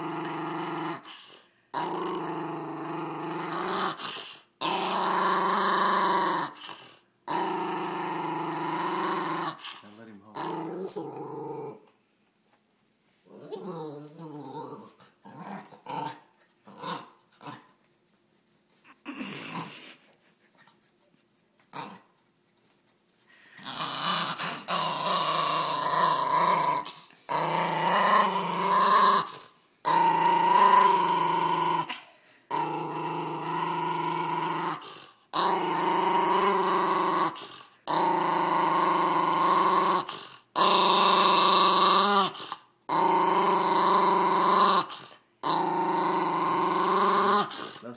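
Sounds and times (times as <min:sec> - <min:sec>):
small dog growling: 0:00.0 - 0:11.9, 0:13.2 - 0:17.8, 0:18.8 - 0:20.5, 0:21.7 - 0:22.1, 0:23.6 - 0:47.9.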